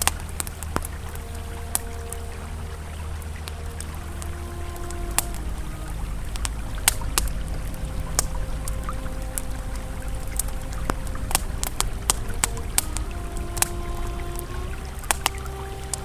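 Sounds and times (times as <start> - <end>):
campfire crackling and popping: 0.0 - 16.0
river flowing: 0.0 - 16.0
soft ambient music tones: 0.0 - 16.0.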